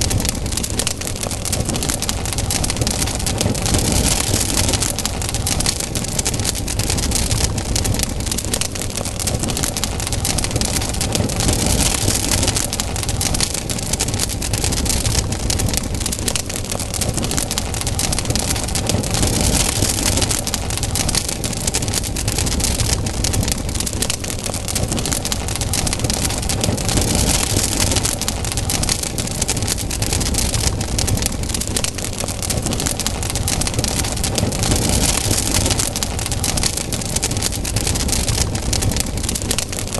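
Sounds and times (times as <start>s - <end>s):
flames rushing: 0.0s - 39.9s
wood crackling and popping: 0.0s - 39.9s.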